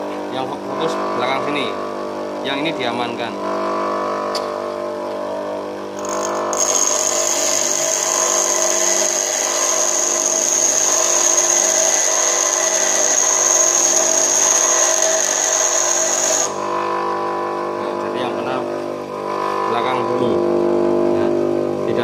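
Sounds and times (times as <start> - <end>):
bench grinder motor hum: 0.0 - 22.0
tool bit grinding with whine: 0.0 - 22.0.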